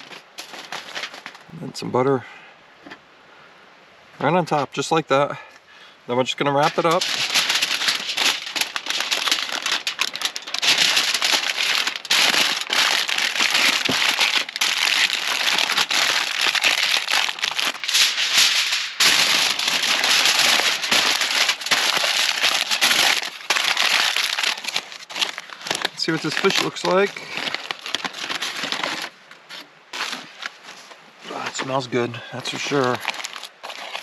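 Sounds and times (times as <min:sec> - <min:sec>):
aluminium foil crinkling: 0:00.0 - 0:01.5, 0:06.4 - 0:34.0.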